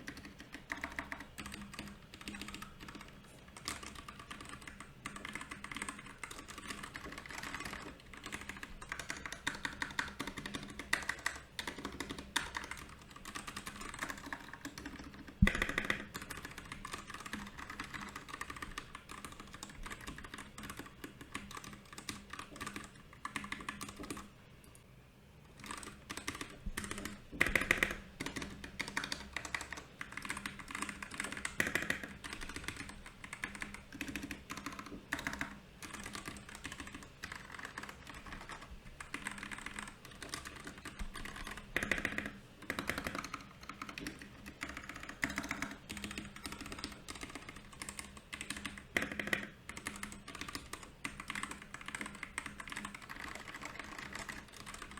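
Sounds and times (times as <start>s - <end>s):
mechanical keyboard typing: 0.0s - 24.3s, 25.5s - 54.9s.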